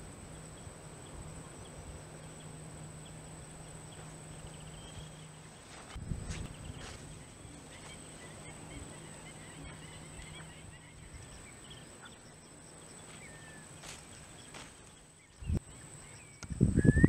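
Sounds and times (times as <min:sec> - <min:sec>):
low hum: 0:00.0 - 0:17.0
steady high-pitched whine: 0:00.0 - 0:17.0.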